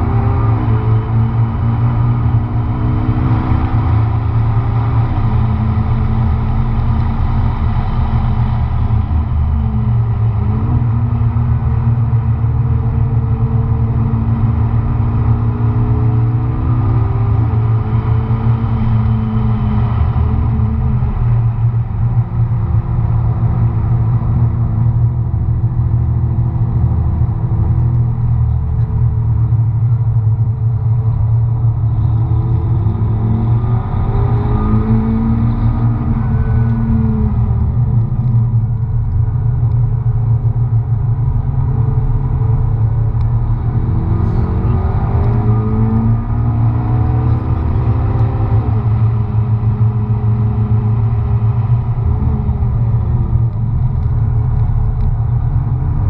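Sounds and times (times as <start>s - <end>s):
car engine revving through gears: 0.0s - 29.6s, 30.5s - 56.0s
low drone: 0.0s - 56.0s.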